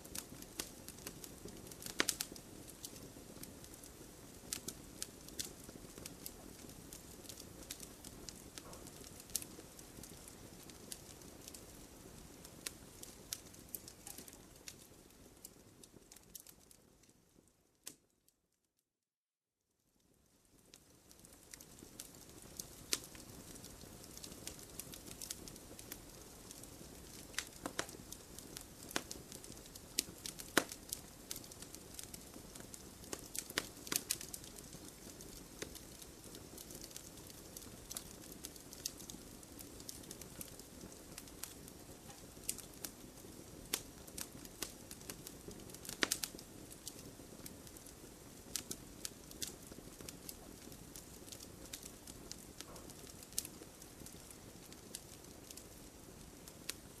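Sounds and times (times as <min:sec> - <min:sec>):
campfire crackling and popping: 0:00.0 - 0:18.1, 0:20.0 - 0:57.0.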